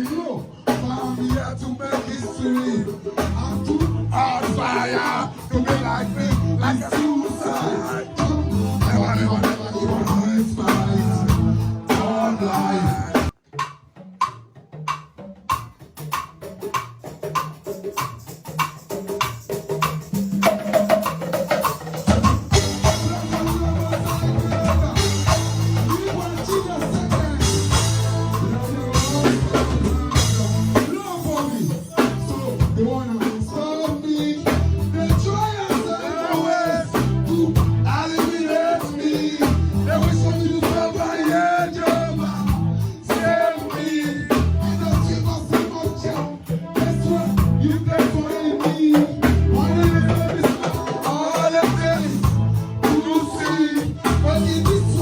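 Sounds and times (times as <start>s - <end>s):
live band playing dancehall: 0.0s - 55.0s.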